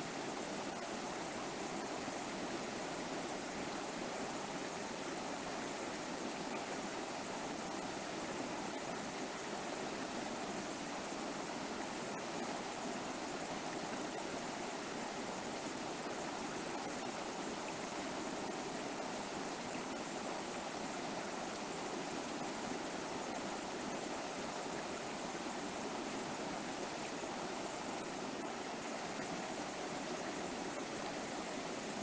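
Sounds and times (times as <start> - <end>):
river water rushing over rocks: 0.0 - 32.0.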